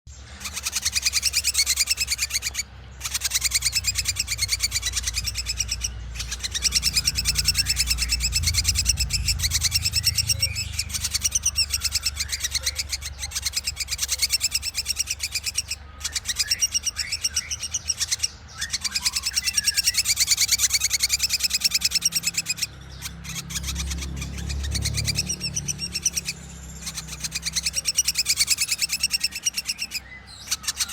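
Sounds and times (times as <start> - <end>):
bird singing rapid high notes: 0.1 - 30.9.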